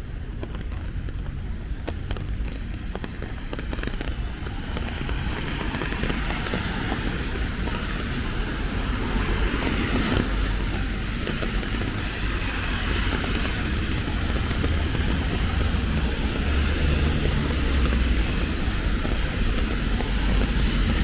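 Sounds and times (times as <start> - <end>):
raindrops ticking: 0.0 - 21.0
tyres hissing on wet road: 0.0 - 21.0
vehicle engine rumble: 0.0 - 21.0.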